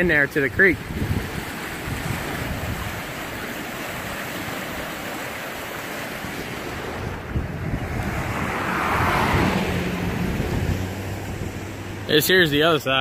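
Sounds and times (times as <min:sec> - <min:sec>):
creek rushing: 0:00.0 - 0:13.0.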